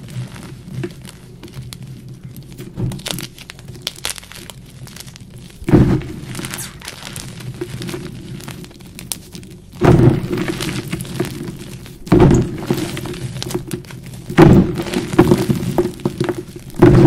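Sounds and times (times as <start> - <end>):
chalk blocks crunching by hand: 0.0 - 17.0
chalk crumbling crackle: 0.0 - 17.0.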